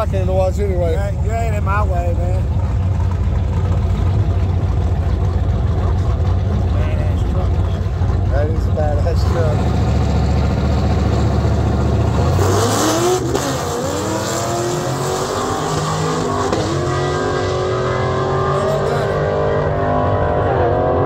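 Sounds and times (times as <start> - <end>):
engines revving at full throttle: 0.0 - 21.0.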